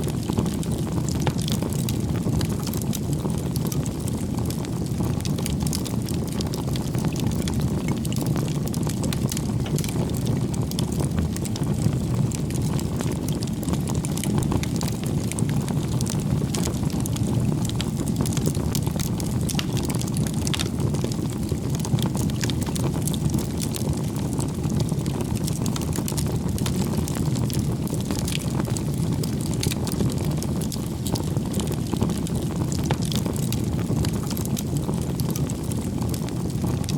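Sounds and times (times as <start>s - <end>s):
low rumble of flames: 0.0s - 36.9s
wood crackling and popping: 0.0s - 36.9s.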